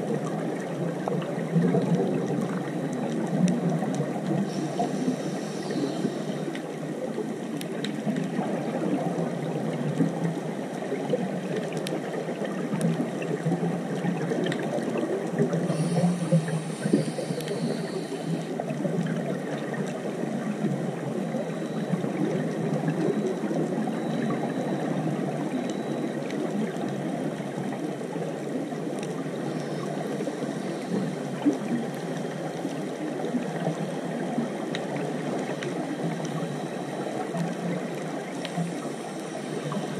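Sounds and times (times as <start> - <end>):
faint underwater crackles: 0.0 - 39.9
muffled underwater rushing: 0.0 - 39.9.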